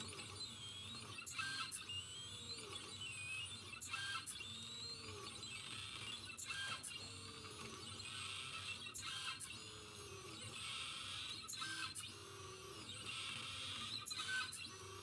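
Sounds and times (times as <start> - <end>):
servo clicks: 0.0 - 15.0
stepper motors whining: 0.0 - 15.0.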